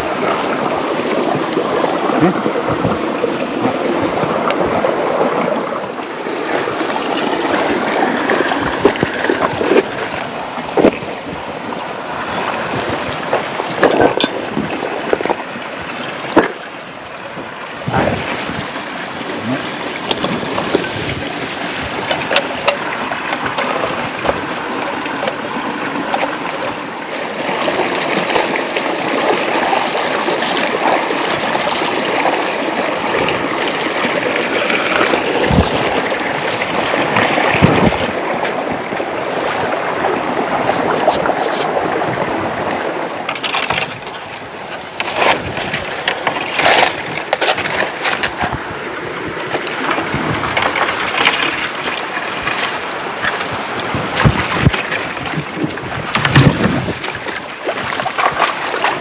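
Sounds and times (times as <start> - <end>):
river water rushing: 0.0 - 59.0
splashes and knocks: 0.0 - 59.0.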